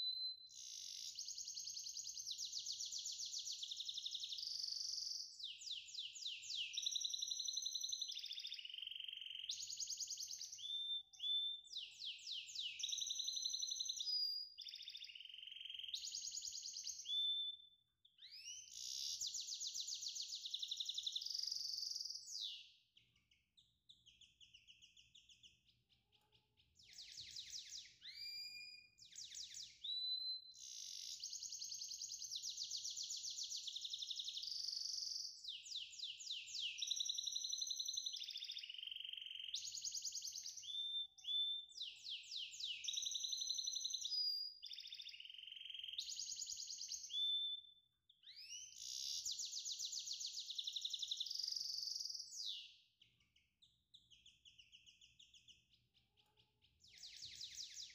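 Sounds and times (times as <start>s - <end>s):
songbird trills and whistles: 0.0s - 57.9s.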